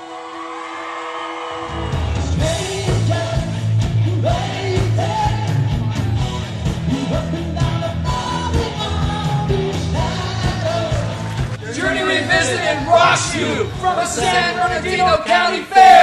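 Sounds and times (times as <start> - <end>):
rock band playing: 1.6 - 15.3
person singing: 1.7 - 16.0.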